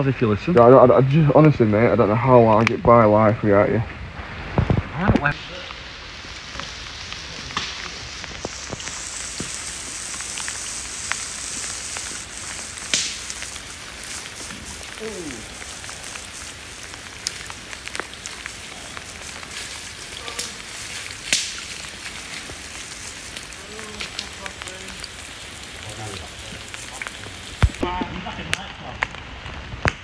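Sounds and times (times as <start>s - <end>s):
steady rain hiss: 0.0s - 30.0s
water drops and drips: 4.5s - 30.0s.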